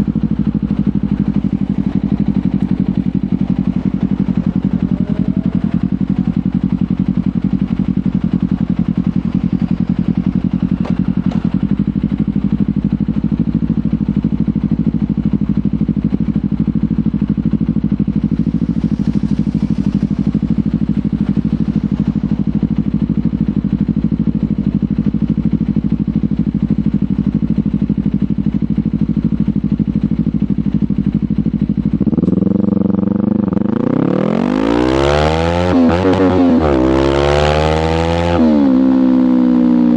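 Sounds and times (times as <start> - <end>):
motorcycle engine running: 0.0 - 39.9
motorcycle revving and accelerating: 0.0 - 39.9.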